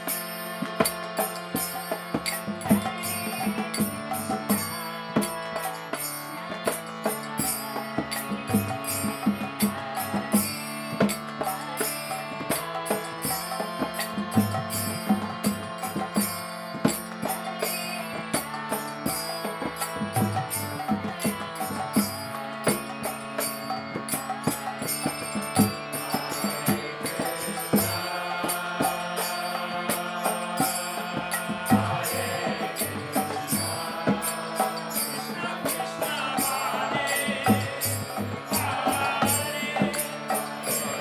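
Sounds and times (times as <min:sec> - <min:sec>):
harmonium chords: 0:00.0 - 0:41.0
woman chanting: 0:00.0 - 0:41.0.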